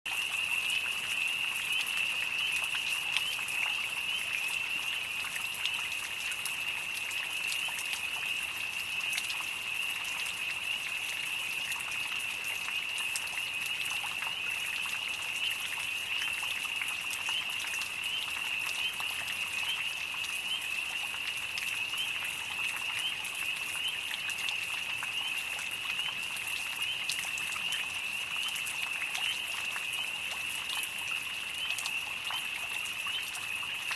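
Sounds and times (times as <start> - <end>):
light rain falling: 0.1 - 33.9.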